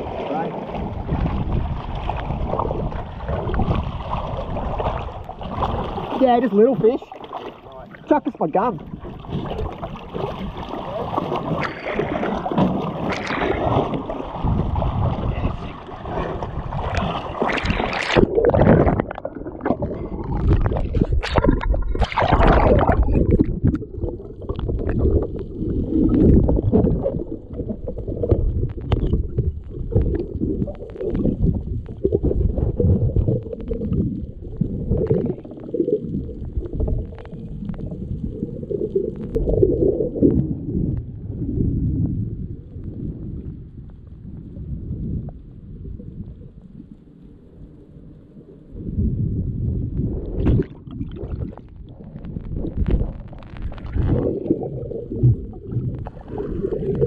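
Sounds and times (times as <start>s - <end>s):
water sloshing and splashing: 0.0s - 41.1s, 50.3s - 57.0s
muffled underwater rumble: 0.0s - 57.0s.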